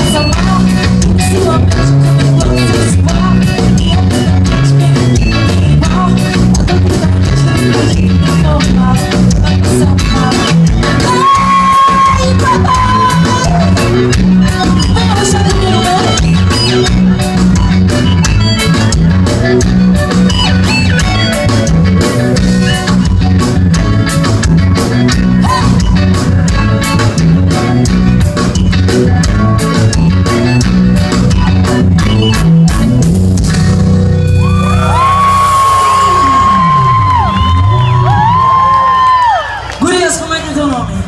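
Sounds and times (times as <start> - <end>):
live band playing instrumental: 0.0 - 41.0.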